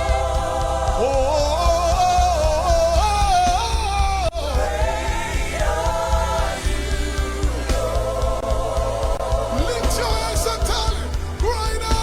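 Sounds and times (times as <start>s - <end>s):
band bass: 0.0s - 12.0s
person singing lead vocal: 0.0s - 12.0s.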